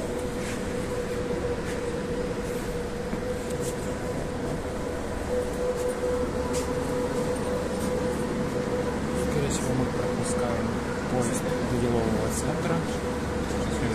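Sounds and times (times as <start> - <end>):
metro train running rumble: 0.0 - 13.9.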